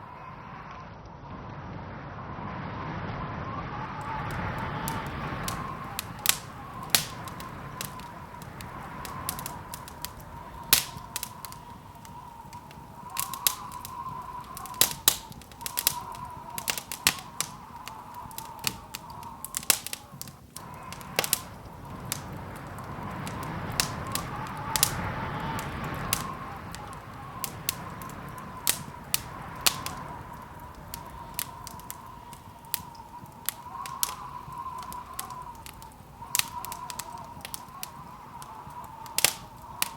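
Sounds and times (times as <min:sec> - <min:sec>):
wood fire crackling: 0:03.8 - 0:39.9.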